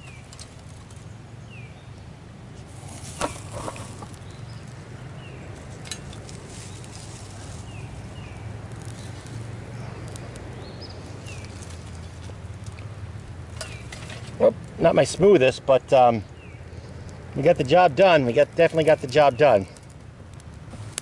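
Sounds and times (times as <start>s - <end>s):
twigs clicking in metal stove: 0.0s - 1.2s, 1.9s - 21.0s
small birds chirping: 0.0s - 20.0s.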